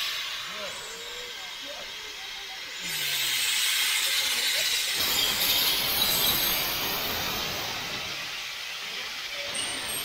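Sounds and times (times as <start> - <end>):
steam locomotive venting steam: 0.0 - 10.0.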